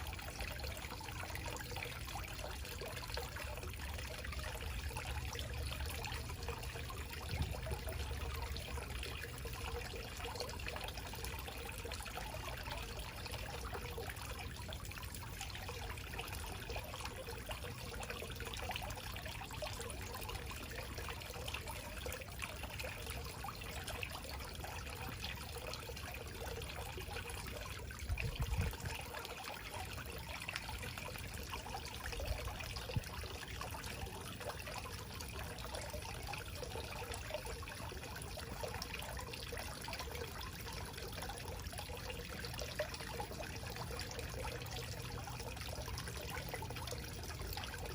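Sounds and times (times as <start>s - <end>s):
waterfall trickling and splashing: 0.0s - 47.9s.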